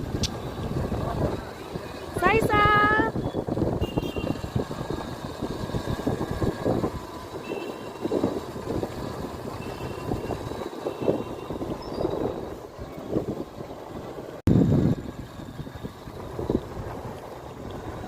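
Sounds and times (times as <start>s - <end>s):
motorcycle wind and road noise: 0.0s - 18.0s.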